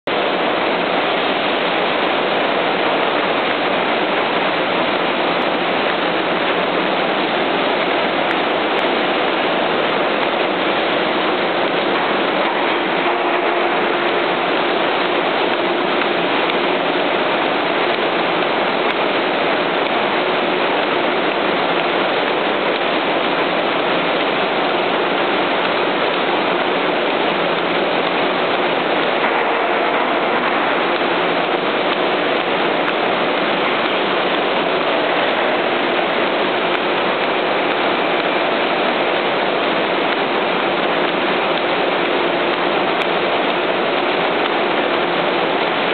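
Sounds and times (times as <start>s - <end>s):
fruit packing line running: 0.1s - 45.9s.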